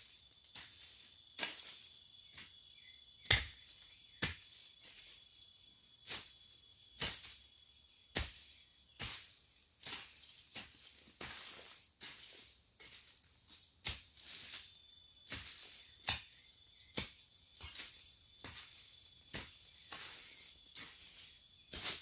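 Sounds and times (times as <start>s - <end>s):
hoe chopping into dry soil: 0.1s - 2.6s, 3.2s - 5.2s, 6.0s - 7.5s, 8.1s - 14.6s, 15.2s - 22.0s.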